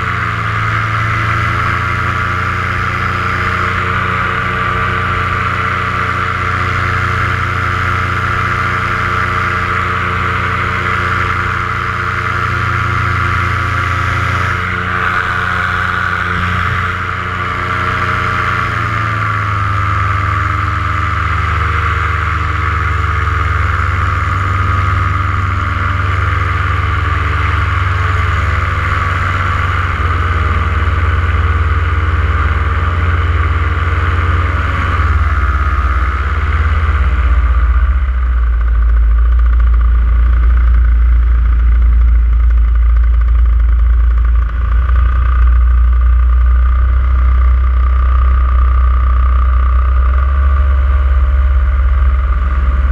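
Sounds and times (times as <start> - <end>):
paramotor engine and propeller: 0.0 - 52.9.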